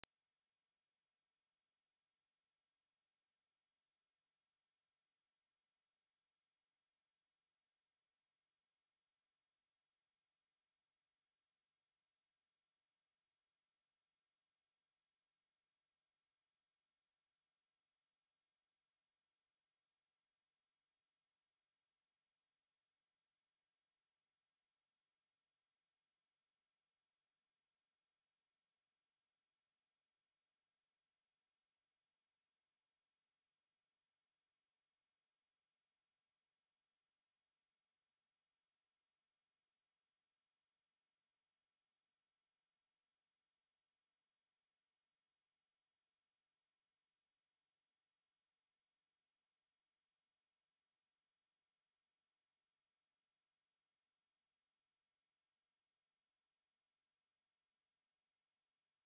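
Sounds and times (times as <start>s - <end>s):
high-pitched sine test tone: 0.0s - 59.0s.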